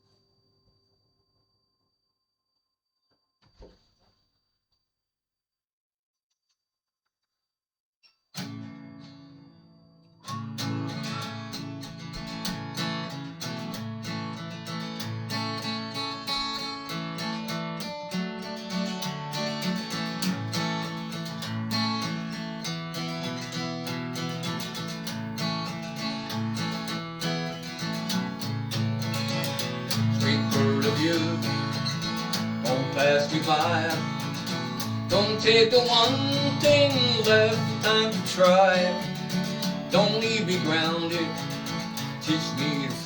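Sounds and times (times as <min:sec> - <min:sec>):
acoustic guitar strumming: 0:08.4 - 0:43.0.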